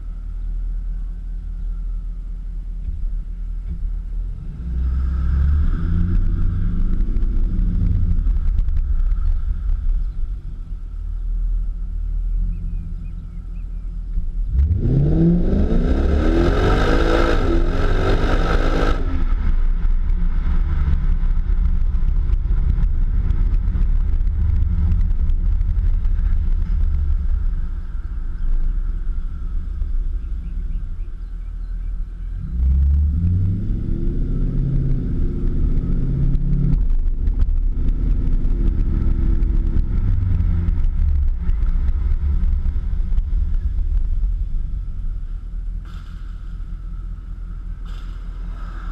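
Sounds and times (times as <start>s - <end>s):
car engine accelerating: 0.0s - 48.9s
low engine drone: 0.0s - 48.9s.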